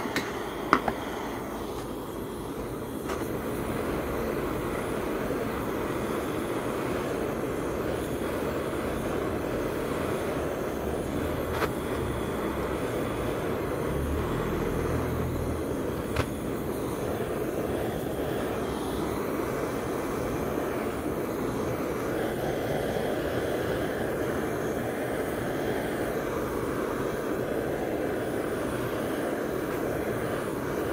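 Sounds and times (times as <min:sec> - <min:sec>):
torch flame hissing: 0:00.0 - 0:30.9.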